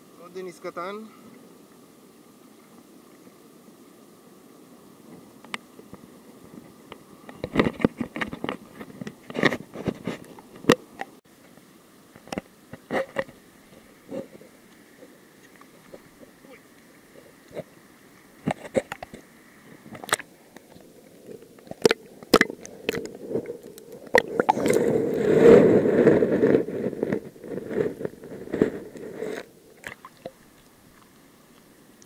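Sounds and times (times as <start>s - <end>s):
dense rustling and crackling: 5.1s - 11.2s, 12.1s - 31.8s.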